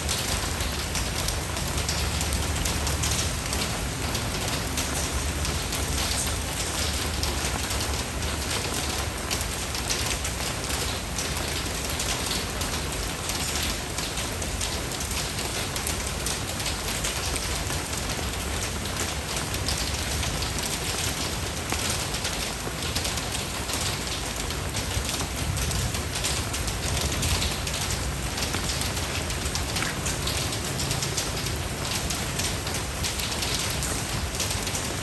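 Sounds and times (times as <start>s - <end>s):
rain pattering on surfaces: 0.0s - 35.0s.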